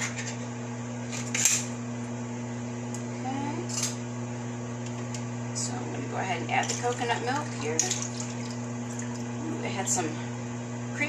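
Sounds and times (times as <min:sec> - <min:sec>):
fan hum: 0:00.0 - 0:11.0.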